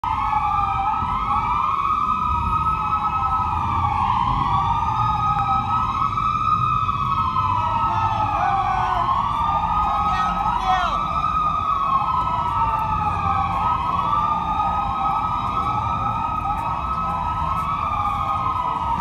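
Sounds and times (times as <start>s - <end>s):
low rumble of vehicle engines: 0.0s - 19.0s
police sirens wailing: 0.0s - 19.0s.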